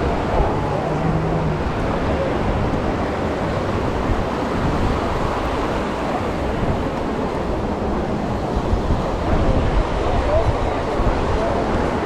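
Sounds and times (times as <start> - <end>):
ocean surf washing on a beach: 0.0 - 12.0
wind buffeting the microphone: 0.0 - 12.0.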